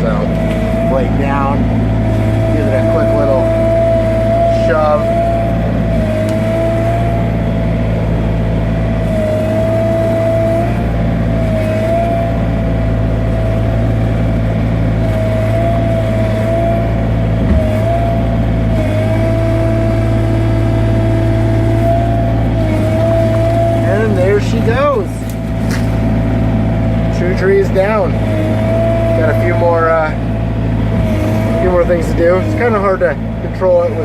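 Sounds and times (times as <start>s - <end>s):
diesel engine hum: 0.0s - 34.0s
high hydraulic whine: 0.0s - 34.0s.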